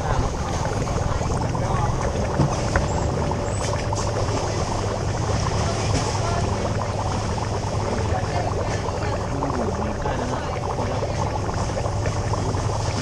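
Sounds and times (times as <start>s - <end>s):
low hum: 0.0s - 13.0s
water pouring into tanks: 0.0s - 13.0s.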